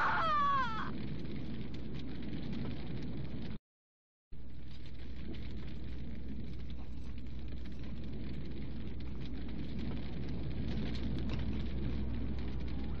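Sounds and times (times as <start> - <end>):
large fire rushing and crackling: 0.0 - 3.6, 4.4 - 13.0.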